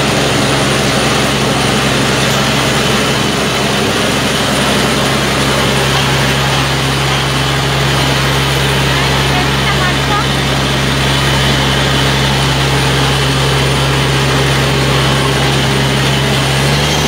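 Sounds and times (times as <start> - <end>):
drilling rig engine droning: 0.0 - 17.0.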